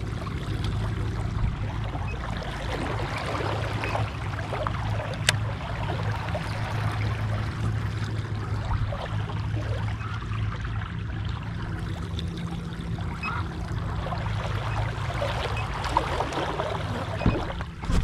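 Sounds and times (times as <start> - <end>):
steady low hum: 0.0 - 18.0
water lapping against kayak hull: 0.0 - 18.0.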